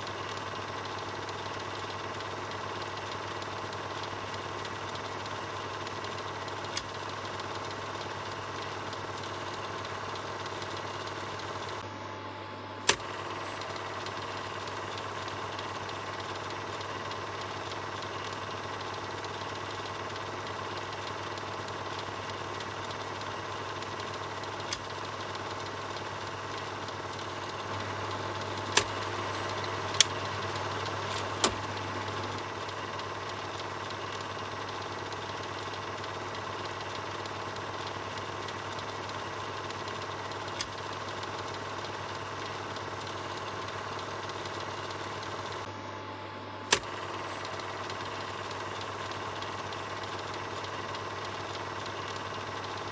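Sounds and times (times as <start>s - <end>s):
sharp projector clicks: 0.0s - 11.9s, 12.8s - 45.7s, 46.7s - 52.9s
film projector whirring and rattling: 0.0s - 52.9s.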